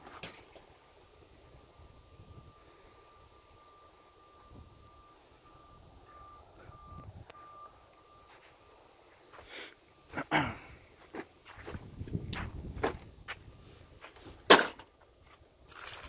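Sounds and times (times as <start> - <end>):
vehicle reversing alarm beeping: 0.6 - 14.4.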